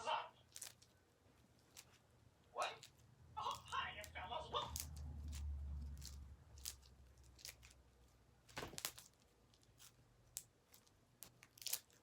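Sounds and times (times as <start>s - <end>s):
sticky clicks and crackles: 0.4s - 1.0s, 2.7s - 12.0s.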